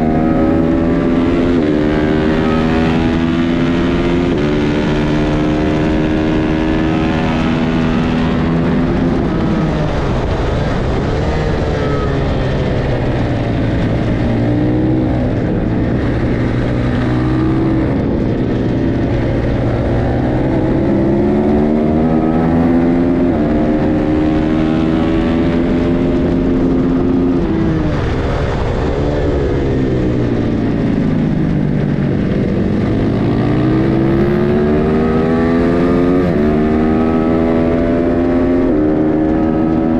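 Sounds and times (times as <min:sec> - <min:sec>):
racing motorcycle engine revving: 0:00.0 - 0:39.9
wind noise: 0:00.0 - 0:39.9.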